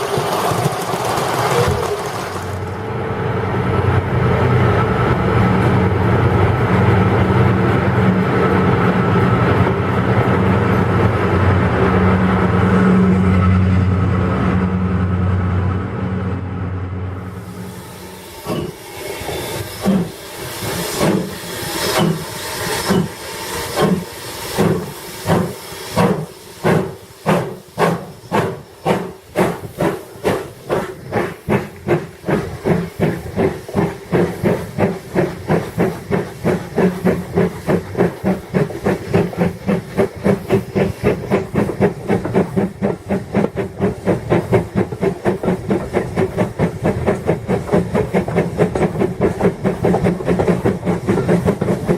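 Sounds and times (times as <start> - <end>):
steam locomotive chuffing: 0.0 - 15.6, 17.1 - 51.9.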